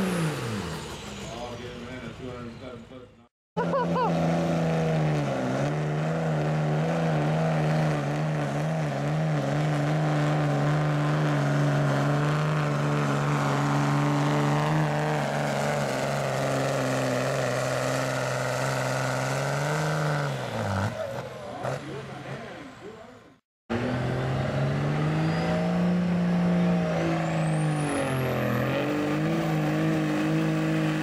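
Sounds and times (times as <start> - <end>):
diesel truck engine at high revs: 0.0 - 2.8, 3.6 - 23.0, 23.7 - 31.0.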